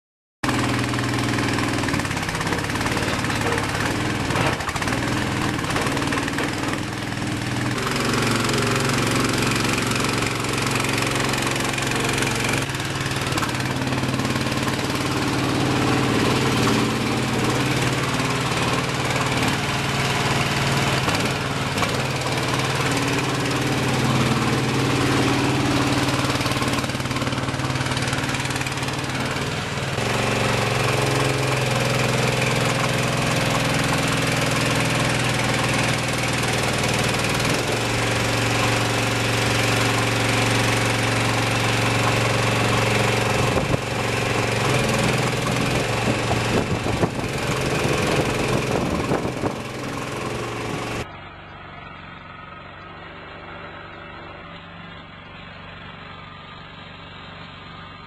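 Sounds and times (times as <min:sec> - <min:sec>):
small gasoline engine running: 0:00.4 - 0:58.0.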